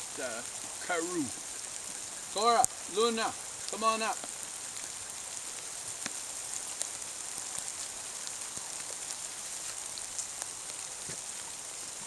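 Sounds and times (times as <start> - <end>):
light rain falling: 0.0 - 12.0
raindrops dripping close by: 0.0 - 12.0.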